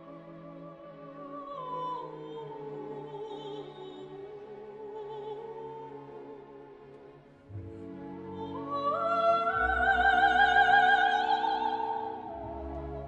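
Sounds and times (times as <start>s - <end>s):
operatic singing voice: 0.0s - 6.8s, 7.8s - 13.0s
orchestral accompaniment: 0.0s - 13.0s.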